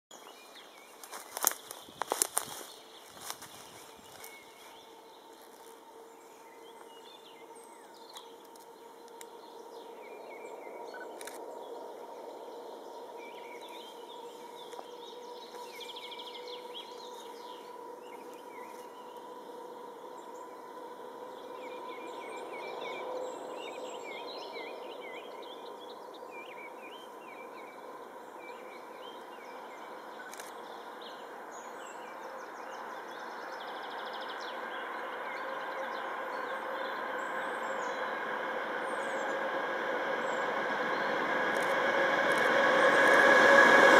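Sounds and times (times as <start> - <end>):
songbirds chirping: 0.1 - 43.9
distant locomotive hum: 0.2 - 43.9.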